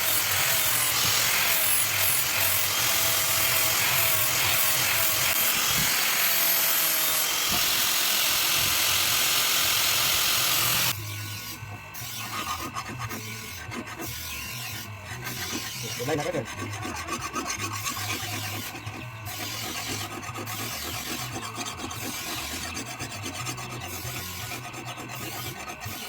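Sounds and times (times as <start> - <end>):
filing strokes: 0.0 - 26.0
grinding on steel: 0.0 - 26.0.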